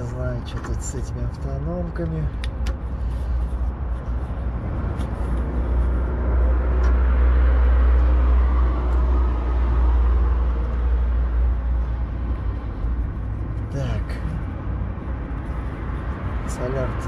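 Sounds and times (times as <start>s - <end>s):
low motor vehicle rumble: 0.0s - 17.0s.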